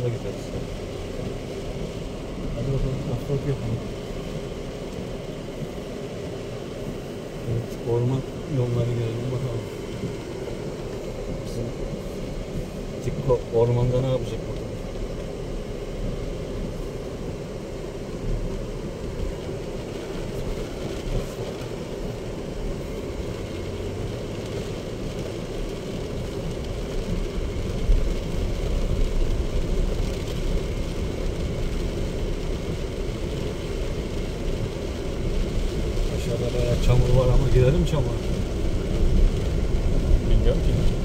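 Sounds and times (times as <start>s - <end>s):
car cabin road rumble: 0.0s - 41.0s
car engine running: 0.0s - 41.0s
tyre and road noise: 0.0s - 41.0s.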